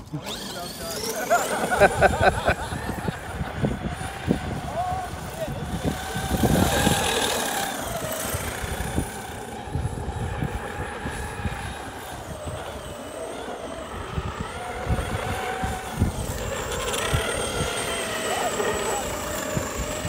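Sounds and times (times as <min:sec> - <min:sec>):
electric motor whine: 0:00.0 - 0:20.0
wind buffeting microphone: 0:01.5 - 0:20.0.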